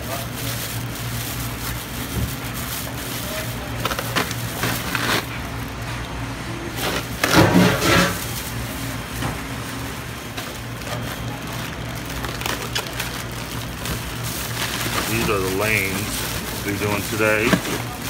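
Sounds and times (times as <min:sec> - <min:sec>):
plastic bag crinkling: 0:00.0 - 0:05.8, 0:06.7 - 0:18.0
low hum of kitchen equipment: 0:00.0 - 0:18.0.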